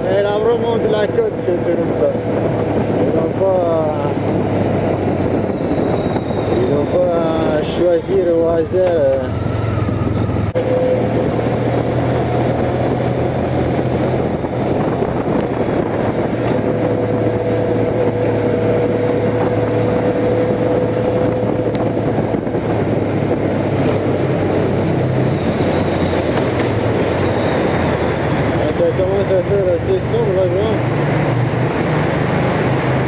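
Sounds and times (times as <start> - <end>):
wind rush on microphone: 0.0 - 33.0.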